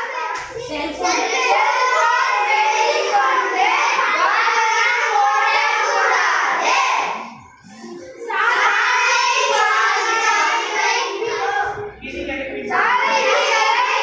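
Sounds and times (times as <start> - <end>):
boys singing in unison: 0.0 - 14.0.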